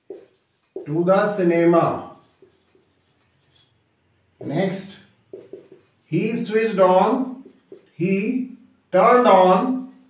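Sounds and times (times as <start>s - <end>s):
marker writing on a whiteboard: 0.0s - 8.4s.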